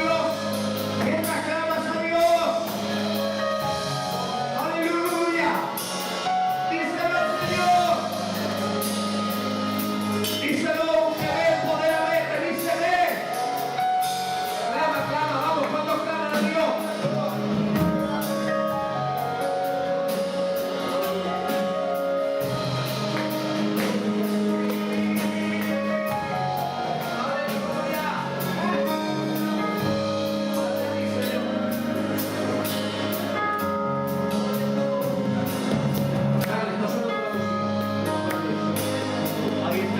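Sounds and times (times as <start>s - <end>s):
person singing worship music: 0.0s - 33.5s
band with drums and bass: 0.0s - 39.9s.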